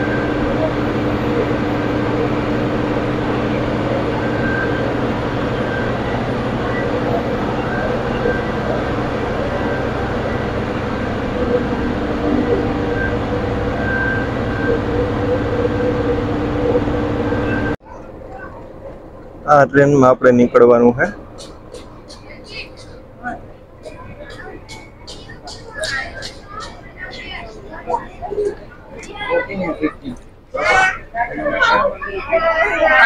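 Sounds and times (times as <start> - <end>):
train droning hum: 0.0 - 33.0.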